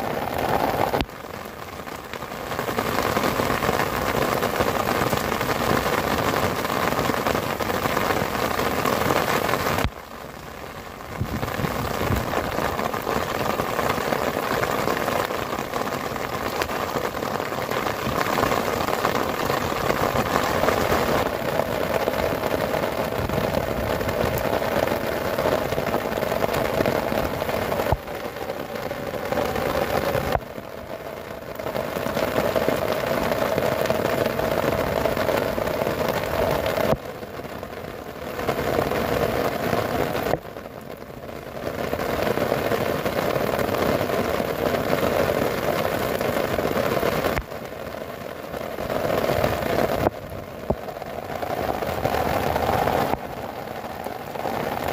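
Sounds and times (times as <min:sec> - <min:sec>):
heavy rain on tent fabric: 0:00.0 - 0:54.9.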